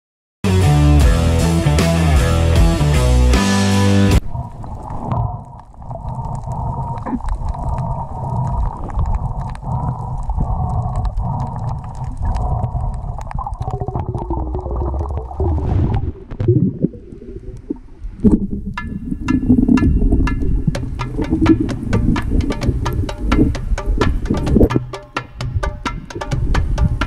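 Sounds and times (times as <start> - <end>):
muffled underwater rumble: 4.2 - 27.0.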